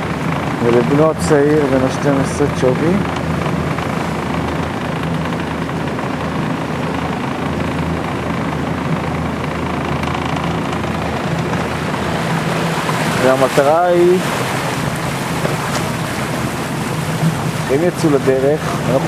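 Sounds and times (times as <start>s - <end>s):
motorboat engine humming: 0.0s - 19.0s
wind and water rushing: 0.0s - 19.0s.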